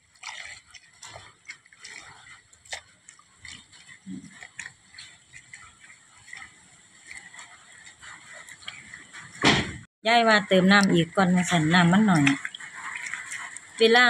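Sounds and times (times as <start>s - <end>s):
greens squeezed by hand in water: 0.0s - 9.4s, 10.2s - 14.0s.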